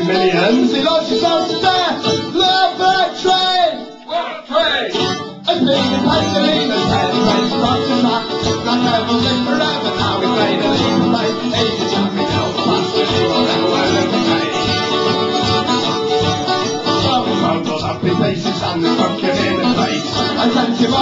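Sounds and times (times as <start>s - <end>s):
acoustic guitar strumming: 0.0s - 21.0s
mandolin strumming: 0.0s - 21.0s.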